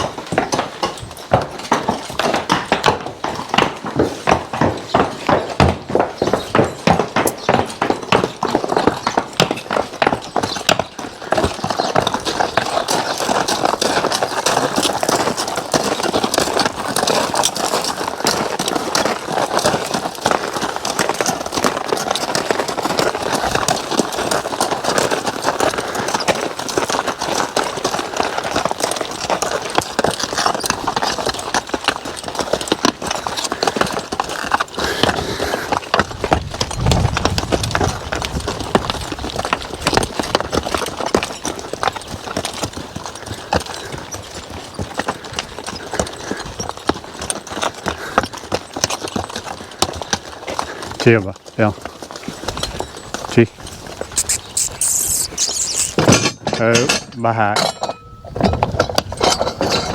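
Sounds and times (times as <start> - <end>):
harness and equipment rattling: 0.0 - 59.9
horse hooves clopping: 0.0 - 59.9.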